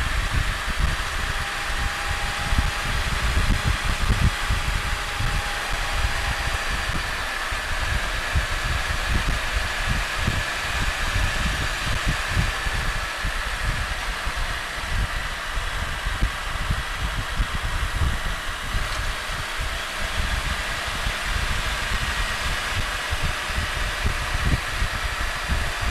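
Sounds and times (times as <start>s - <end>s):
motorcycle engine cruising: 0.0s - 25.9s
wind buffeting microphone: 0.0s - 25.9s.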